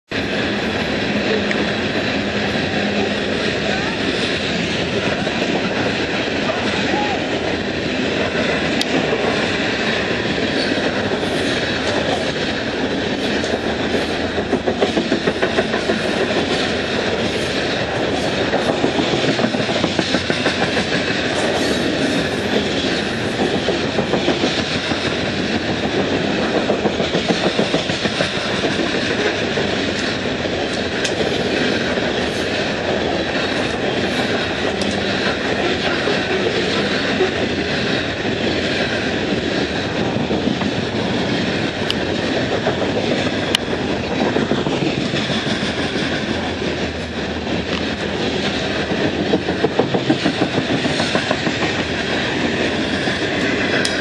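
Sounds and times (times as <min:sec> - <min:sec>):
train wheels rumbling on rails: 0:00.0 - 0:54.0
clickety-clack over rail joints: 0:00.1 - 0:54.0.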